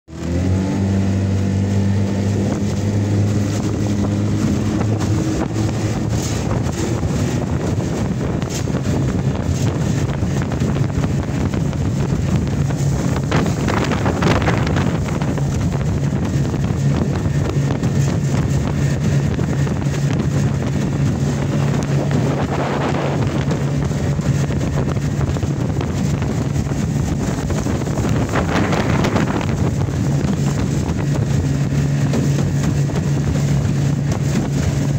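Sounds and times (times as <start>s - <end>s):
outboard engine drone: 0.1s - 34.9s
rush of wind and water: 0.1s - 34.9s.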